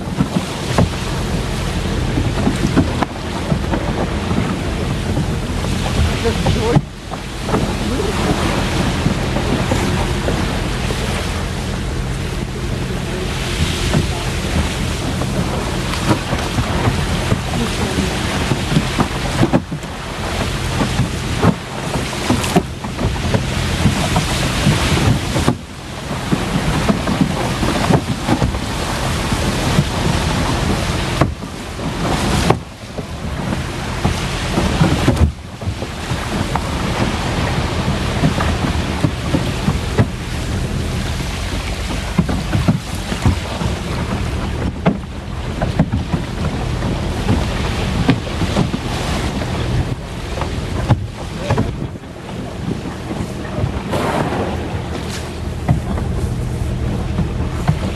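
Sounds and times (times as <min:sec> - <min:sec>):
motorboat engine running: 0:00.0 - 0:57.9
wind buffeting the microphone: 0:00.0 - 0:57.9.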